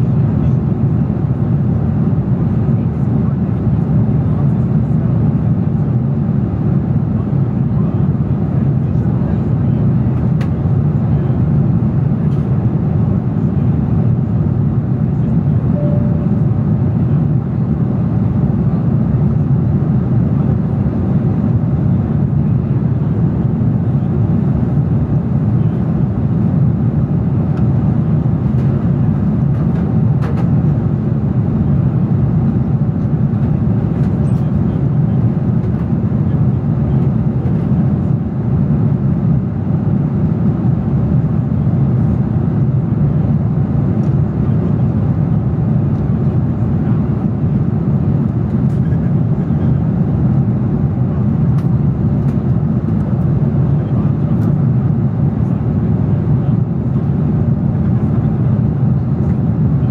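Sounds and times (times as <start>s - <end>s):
jet airliner cabin rumble: 0.0s - 59.9s.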